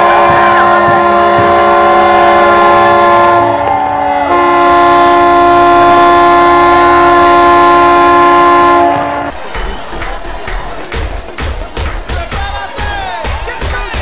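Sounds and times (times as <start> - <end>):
horns blasting a chord: 0.0 - 13.6.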